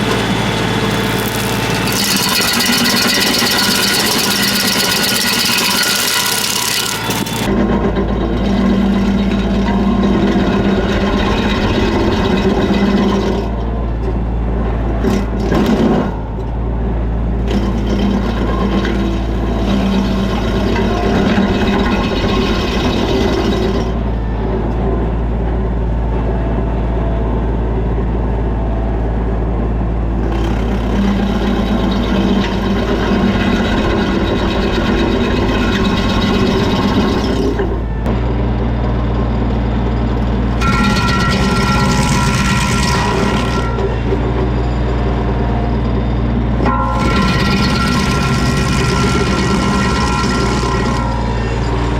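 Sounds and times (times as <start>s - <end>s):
stump grinder grinding wood: 0.0s - 27.4s, 28.0s - 51.9s
tractor diesel engine running: 0.0s - 51.9s.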